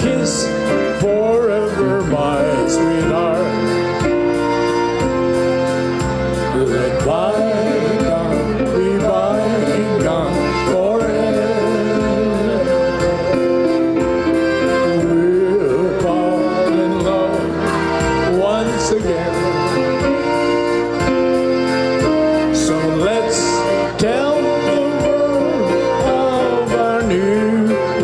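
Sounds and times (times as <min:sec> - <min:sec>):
electronic keyboard: 0:00.0 - 0:28.0
polka music on accordion: 0:00.0 - 0:28.0.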